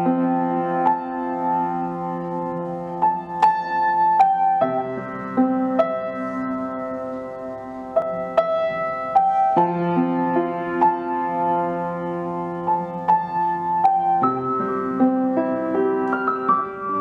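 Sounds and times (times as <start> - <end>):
slow soft piano music: 0.0 - 17.0.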